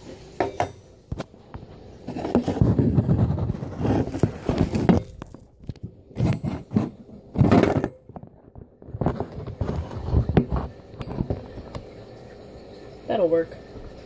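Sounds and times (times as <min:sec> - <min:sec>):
phone knocking and scraping on stovetop: 0:00.0 - 0:11.9.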